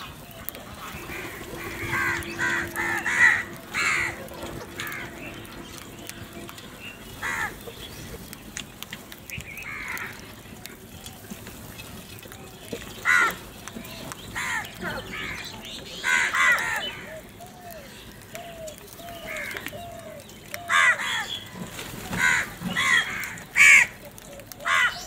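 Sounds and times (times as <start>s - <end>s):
crows cawing: 0.0s - 8.1s, 9.6s - 11.0s, 12.9s - 13.6s, 14.4s - 25.0s
faint clicks: 0.0s - 25.0s.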